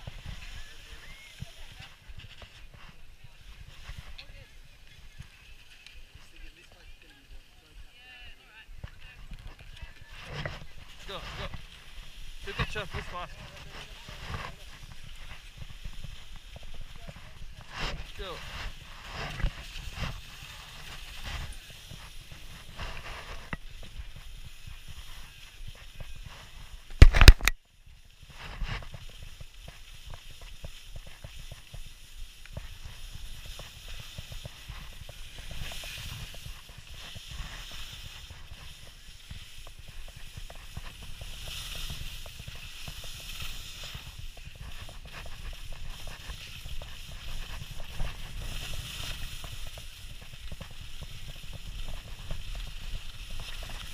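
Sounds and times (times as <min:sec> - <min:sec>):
skis scraping over snow: 0:00.0 - 0:53.9
wind rumbling on microphone: 0:00.0 - 0:53.9.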